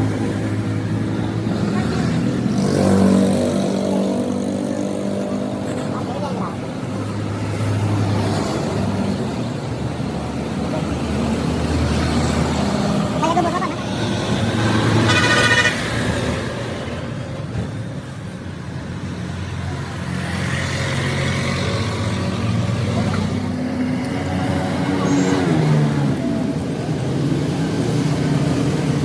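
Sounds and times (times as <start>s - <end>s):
vehicle engines revving: 0.0s - 29.0s.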